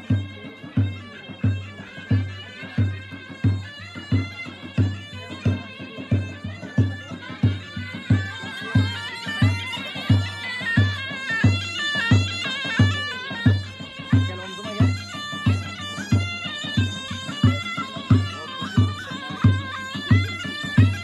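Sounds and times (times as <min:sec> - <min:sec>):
shrill reed pipe melody: 0:00.0 - 0:21.0.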